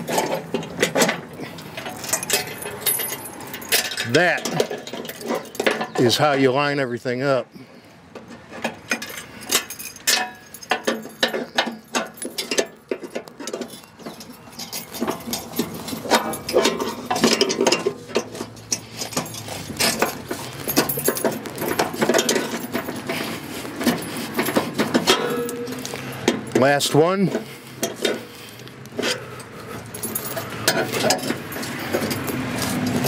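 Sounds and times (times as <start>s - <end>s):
metal pins and chains rattling: 0.0s - 7.4s, 8.2s - 33.0s.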